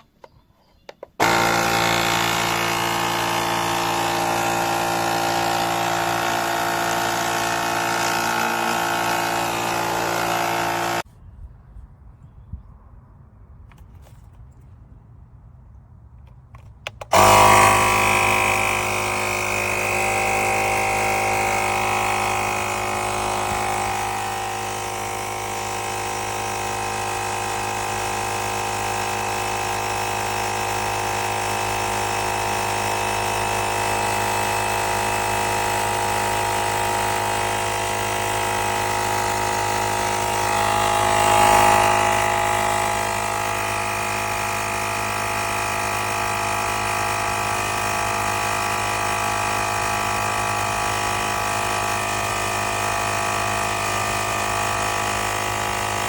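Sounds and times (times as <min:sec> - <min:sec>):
air compressor motor hum: 0:01.2 - 0:11.1, 0:16.9 - 0:56.0.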